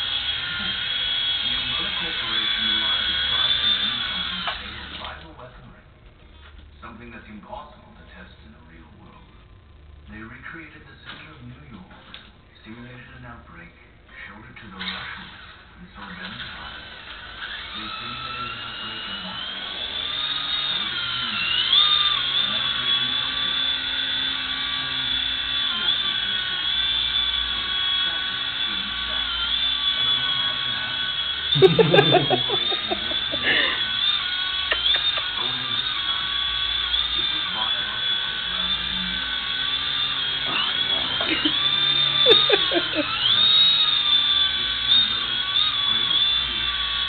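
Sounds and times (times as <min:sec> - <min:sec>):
toy helicopter motor whining: 0:00.0 - 0:05.4, 0:14.2 - 0:47.0.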